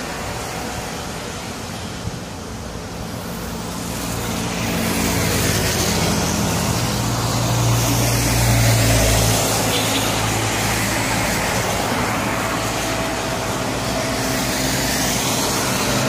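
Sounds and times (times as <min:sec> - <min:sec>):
heavy vehicle engine drone: 0:00.0 - 0:16.0
tyres hissing on wet road: 0:00.0 - 0:16.0.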